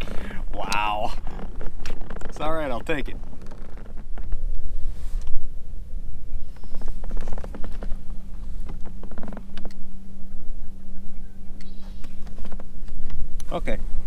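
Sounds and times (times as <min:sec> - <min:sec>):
low steady hum: 0:00.0 - 0:14.0
wind rumbling on microphone: 0:00.0 - 0:14.0.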